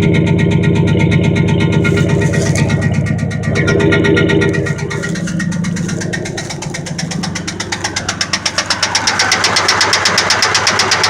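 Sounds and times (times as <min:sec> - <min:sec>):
engine running: 0:00.0 - 0:11.0
rapid even engine ticking: 0:00.0 - 0:11.0.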